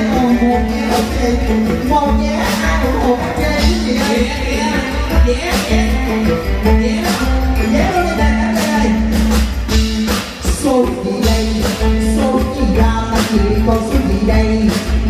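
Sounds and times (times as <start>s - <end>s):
amplified stage music: 0.0s - 15.0s
person singing into microphone: 0.0s - 15.0s.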